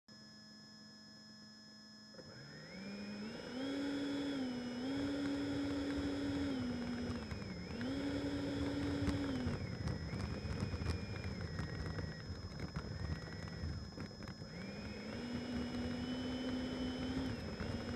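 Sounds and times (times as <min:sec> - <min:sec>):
electric ducted fans whining: 0:02.0 - 0:17.9.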